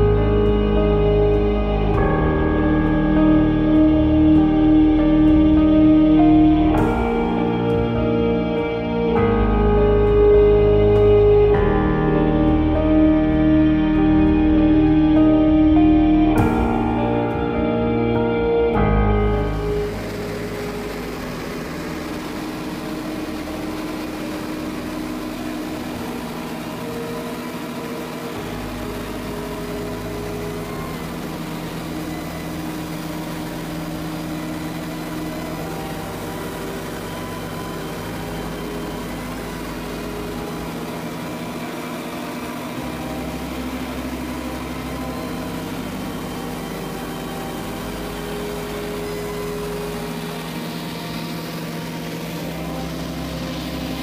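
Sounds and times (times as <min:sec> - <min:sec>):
plane engine droning in cabin: 0:00.0 - 0:54.0.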